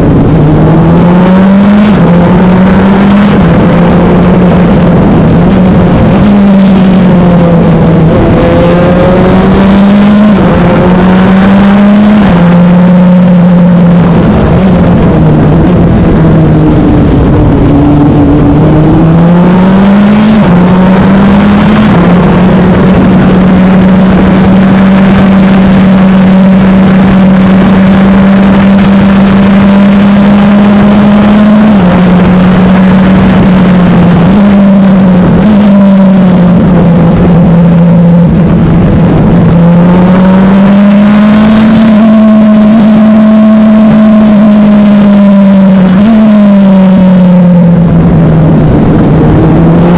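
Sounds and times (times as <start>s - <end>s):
race car engine revving: 0.0s - 49.9s.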